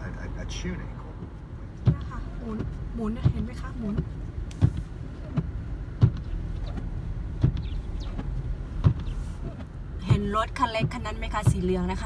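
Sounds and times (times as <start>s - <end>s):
road and engine rumble: 0.0s - 12.0s
windshield wipers knocking: 1.2s - 12.0s.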